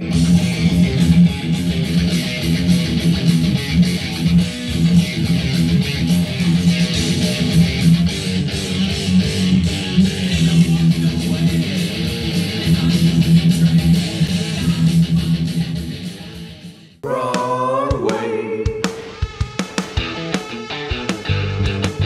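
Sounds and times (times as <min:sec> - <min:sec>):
electric guitar metal riff: 0:00.0 - 0:22.0.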